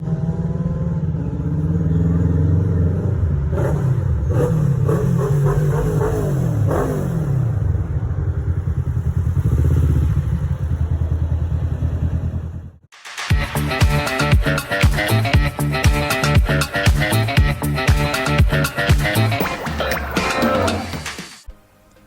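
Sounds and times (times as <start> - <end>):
motorcycle engine idling and revving: 0.0 - 21.1.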